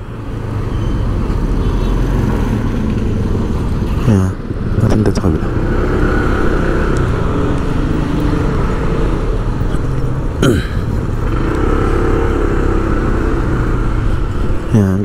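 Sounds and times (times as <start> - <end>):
motorcycles: 0.0 - 15.0
vehicle engines running: 0.0 - 15.0.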